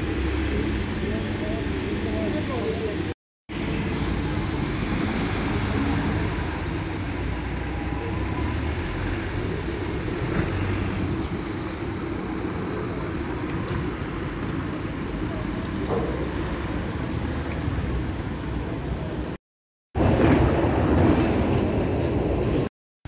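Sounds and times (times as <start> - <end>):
road traffic: 0.0 - 22.7.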